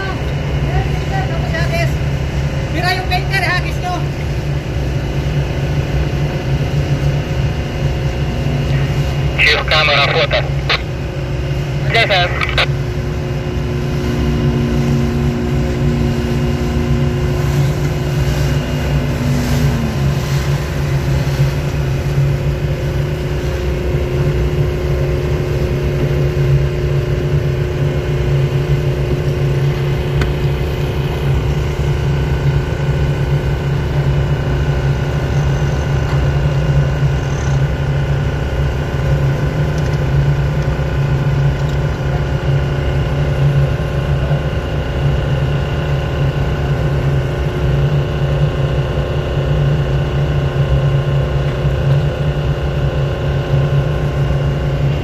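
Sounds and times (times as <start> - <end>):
engine humming steadily: 0.0 - 55.0.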